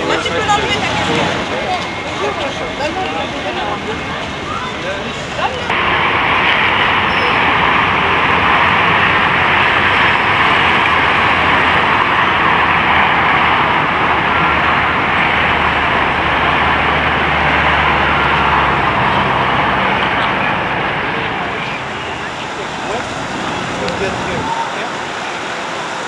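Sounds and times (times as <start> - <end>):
vehicle road and engine noise: 0.0 - 26.0.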